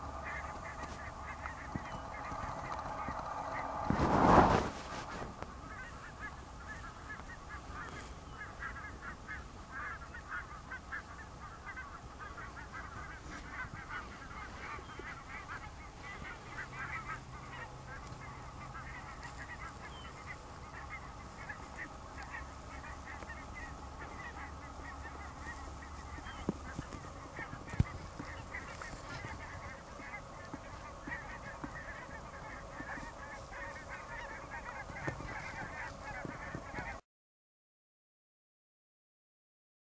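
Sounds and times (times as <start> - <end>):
geese honking: 0.0 - 37.0.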